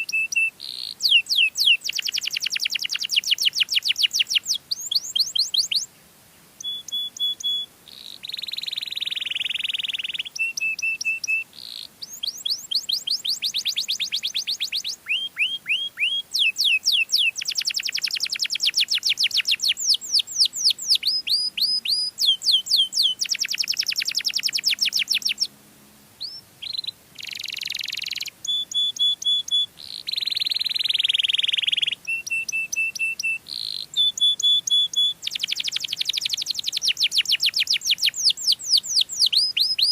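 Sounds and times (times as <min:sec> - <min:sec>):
canary singing: 0:00.0 - 0:05.9, 0:06.6 - 0:25.6, 0:26.2 - 0:39.9.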